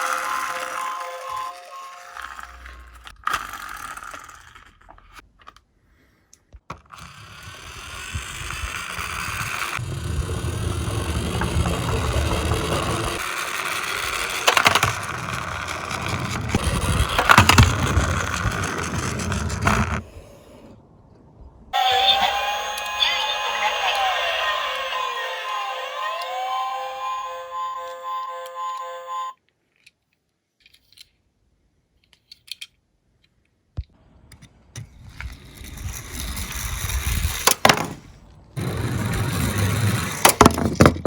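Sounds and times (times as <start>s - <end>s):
toy car rolling scrape: 0.0s - 5.2s, 6.7s - 20.8s, 21.8s - 29.3s, 34.8s - 41.0s.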